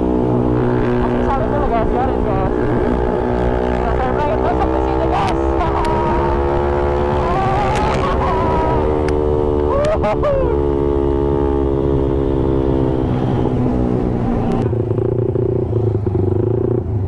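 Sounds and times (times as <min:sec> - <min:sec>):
motorcycle engine decelerating: 0:00.0 - 0:17.0.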